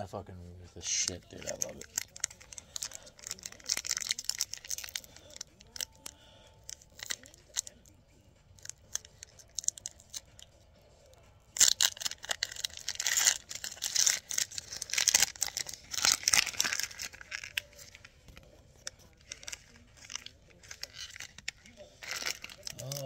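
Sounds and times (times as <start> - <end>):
foil wrapper tearing and crinkling: 0.9 - 7.9, 8.5 - 23.0.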